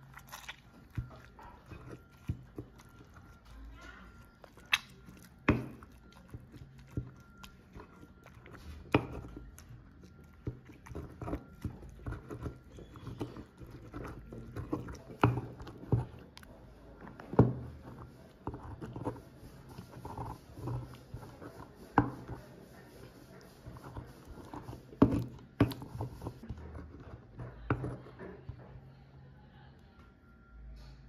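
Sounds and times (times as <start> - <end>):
stone pestle wet crushing: 0.0 - 28.0.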